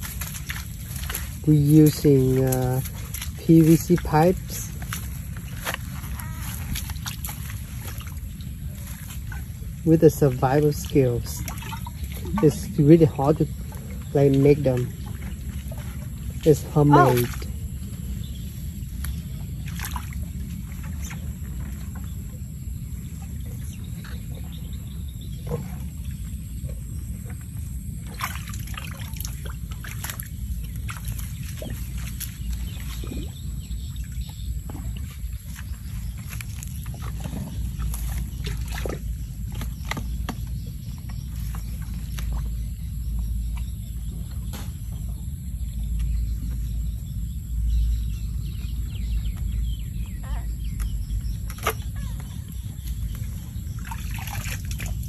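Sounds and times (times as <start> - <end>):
steady low rumble: 0.0 - 55.0
wet muddy handling sounds: 0.0 - 55.0.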